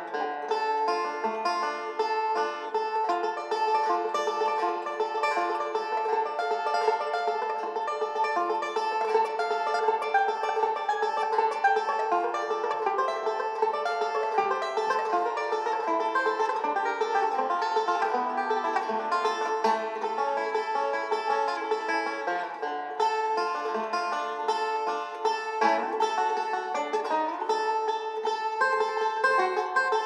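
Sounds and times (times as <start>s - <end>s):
banjo music: 0.0s - 30.0s.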